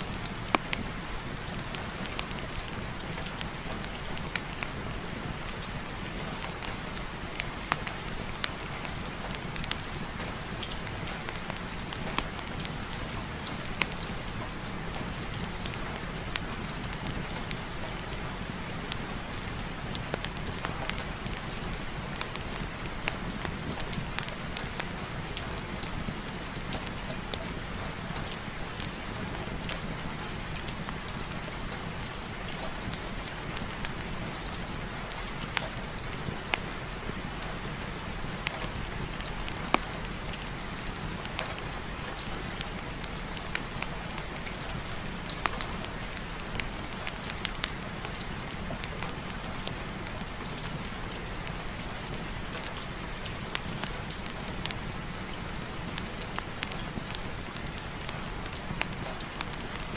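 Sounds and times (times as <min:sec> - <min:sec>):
heavy rain: 0:00.0 - 0:59.9
sharp pops and crackles: 0:06.4 - 0:59.9.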